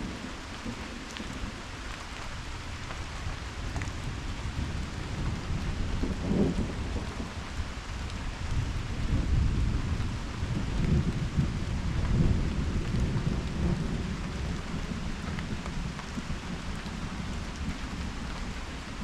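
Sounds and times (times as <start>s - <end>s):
rolling thunder: 0.0s - 19.0s
steady rain: 0.0s - 19.0s.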